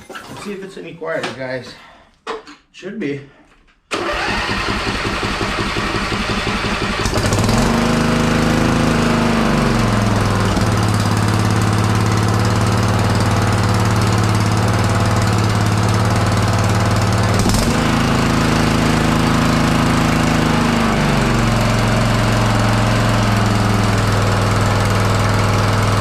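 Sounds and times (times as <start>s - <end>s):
riding lawnmower engine running: 4.0s - 26.0s.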